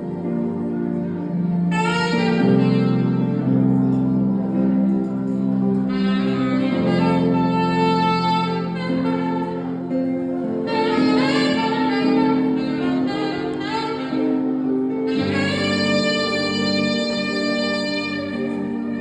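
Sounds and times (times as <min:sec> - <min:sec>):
backing music: 0:00.0 - 0:19.0
saxophone melody: 0:00.0 - 0:19.0.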